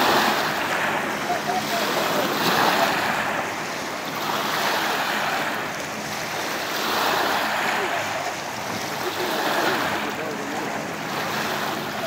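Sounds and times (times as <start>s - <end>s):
river water lapping: 0.0s - 12.0s.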